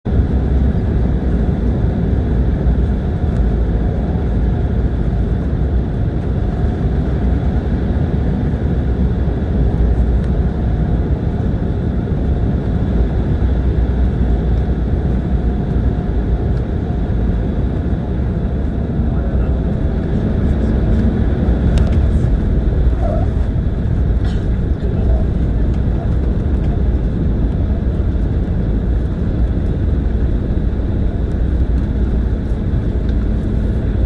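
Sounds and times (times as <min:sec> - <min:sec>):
jet engine and airflow rumble: 0:00.0 - 0:34.0.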